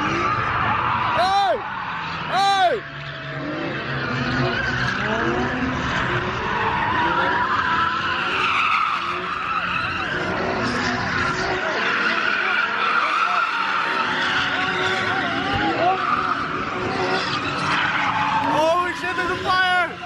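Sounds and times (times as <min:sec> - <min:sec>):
truck engine revving: 0:00.0 - 0:20.0
tyres squealing on asphalt: 0:00.0 - 0:20.0.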